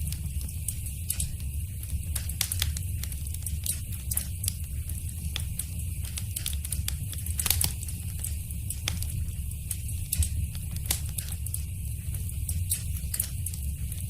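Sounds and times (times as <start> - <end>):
low rumble of flames: 0.0 - 14.0
wood fire popping and snapping: 0.0 - 14.0.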